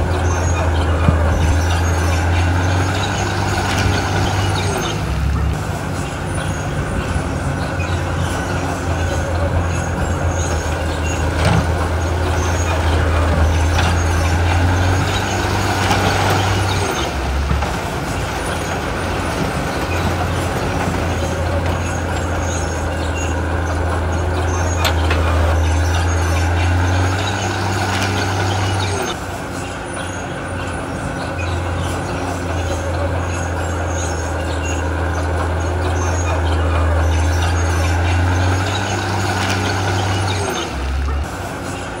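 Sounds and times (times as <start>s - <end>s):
heavy diesel machinery running: 0.0s - 42.0s.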